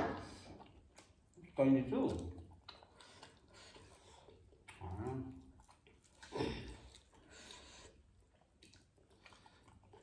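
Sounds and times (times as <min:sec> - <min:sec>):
faint eating noises: 0:00.0 - 0:10.0.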